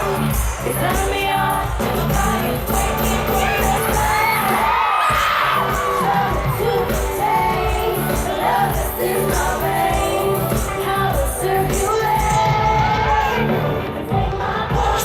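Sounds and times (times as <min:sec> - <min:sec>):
amplified band playing: 0:00.0 - 0:15.0
crowd noise: 0:00.0 - 0:15.0
female vocal group singing: 0:00.0 - 0:15.0.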